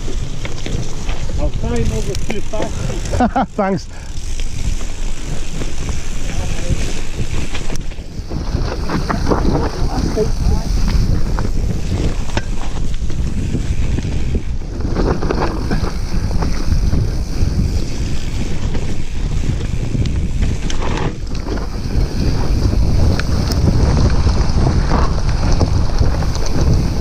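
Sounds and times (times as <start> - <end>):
bike rattling over bumps: 0.0 - 27.0
bike tyres rumbling on dirt: 0.0 - 27.0
wind buffeting microphone: 0.0 - 27.0.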